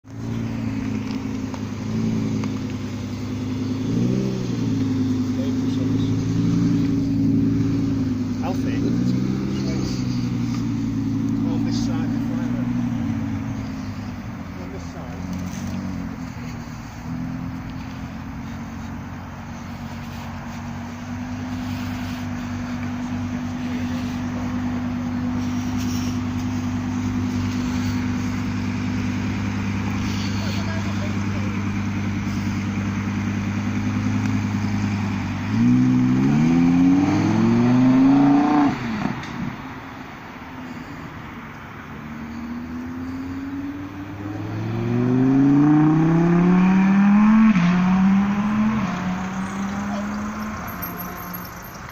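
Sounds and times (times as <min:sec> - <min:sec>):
car engine idling: 0:00.0 - 0:46.4, 0:47.9 - 0:51.9.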